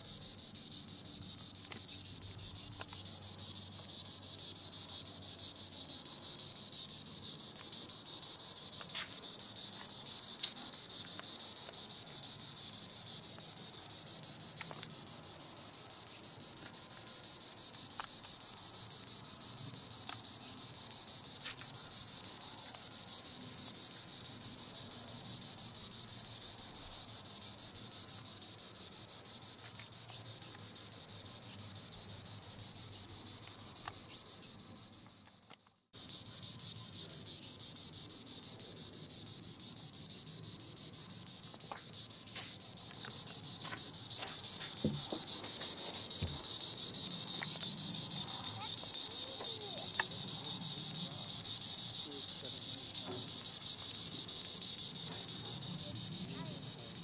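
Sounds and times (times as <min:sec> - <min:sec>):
cicada shrill buzz: 0:00.0 - 0:35.1, 0:36.0 - 0:57.0.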